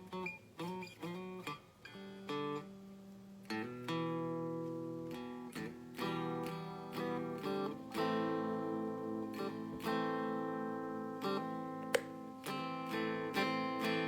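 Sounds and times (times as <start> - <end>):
electric guitar strumming chords: 0.0 - 14.0.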